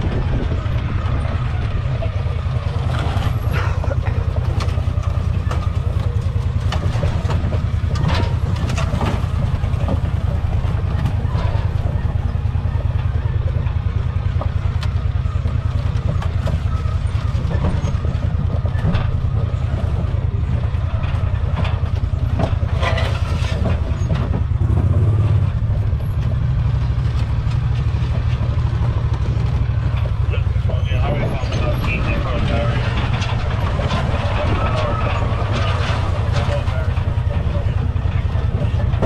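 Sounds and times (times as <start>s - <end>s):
knocks and rattles: 0.0s - 39.0s
vehicle engine running: 0.0s - 39.0s.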